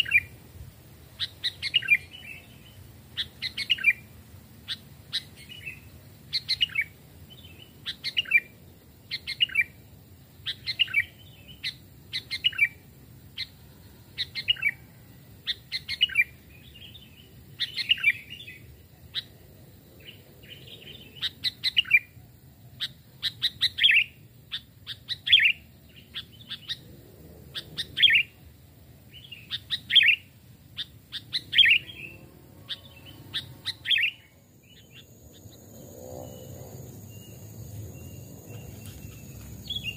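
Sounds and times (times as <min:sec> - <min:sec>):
bulbuls chirping: 0:00.0 - 0:00.5, 0:01.1 - 0:09.8, 0:10.4 - 0:13.6, 0:15.4 - 0:19.4, 0:22.8 - 0:28.4, 0:29.1 - 0:39.9.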